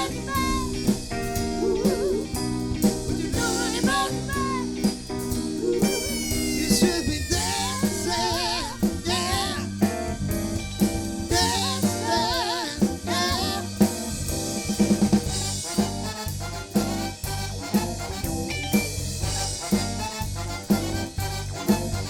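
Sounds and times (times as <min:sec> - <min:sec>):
bass line: 0:00.0 - 0:22.0
drum kit beat: 0:00.0 - 0:22.0.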